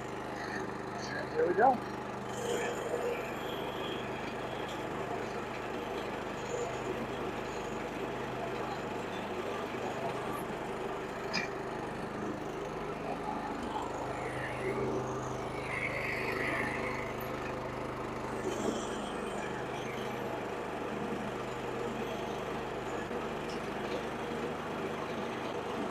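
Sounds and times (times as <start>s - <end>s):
lawn mower engine running: 0.0s - 8.6s, 9.3s - 21.9s.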